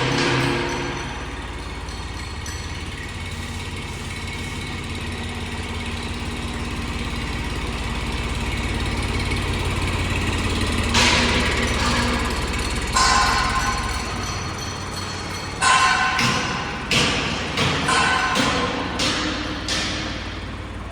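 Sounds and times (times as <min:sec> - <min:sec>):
engine running: 0:00.0 - 0:20.9.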